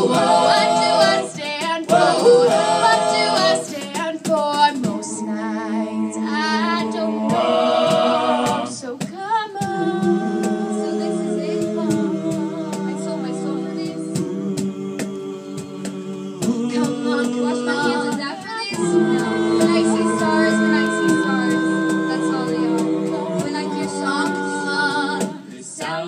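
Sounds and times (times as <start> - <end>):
group singing vocal harmonies: 0.0 - 26.0.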